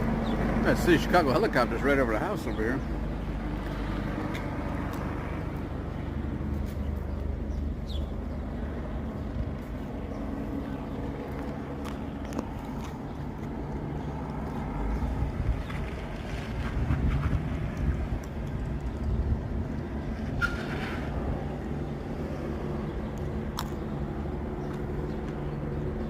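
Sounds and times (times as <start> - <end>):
helicopter flying low overhead: 0.0 - 26.0.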